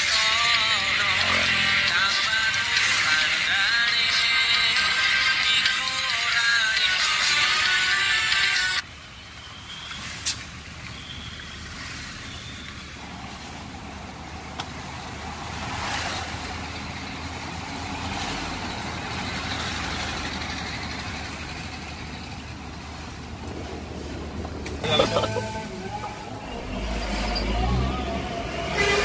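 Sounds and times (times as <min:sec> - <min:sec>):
tyres and engine rushing: 0:00.0 - 0:29.0.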